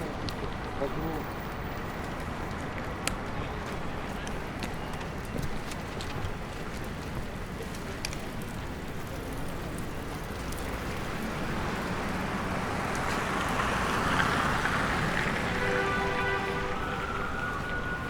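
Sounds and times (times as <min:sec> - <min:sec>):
busy pedestrian street ambience: 0:00.0 - 0:18.0.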